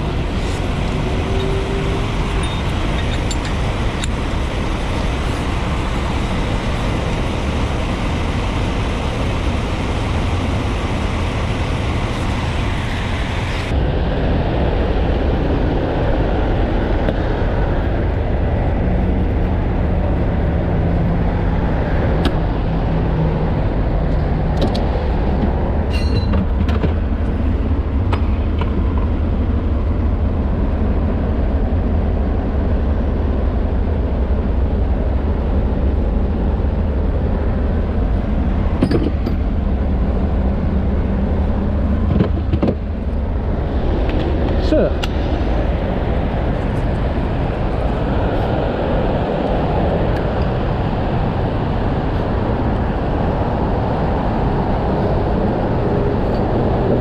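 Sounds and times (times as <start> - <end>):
heavy freeway traffic rumble: 0.0 - 57.0.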